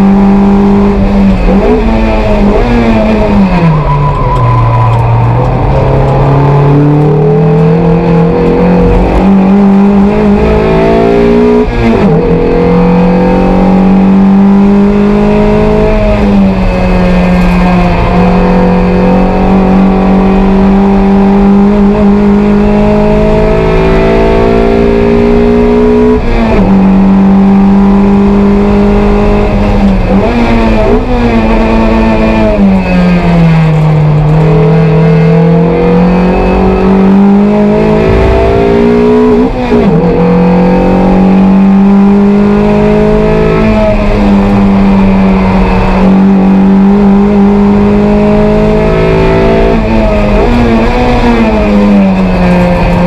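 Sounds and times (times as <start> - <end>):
race car engine revving through gears: 0.0 - 53.0.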